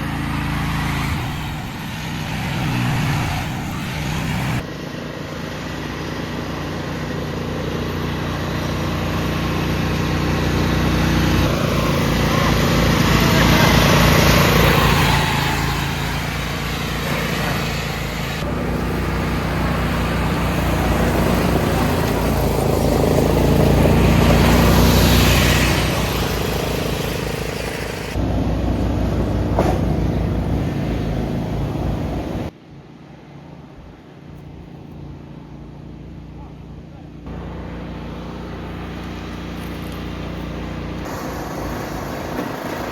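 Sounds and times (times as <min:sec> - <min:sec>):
lawnmower engine running: 0:00.0 - 0:32.5, 0:34.3 - 0:42.9.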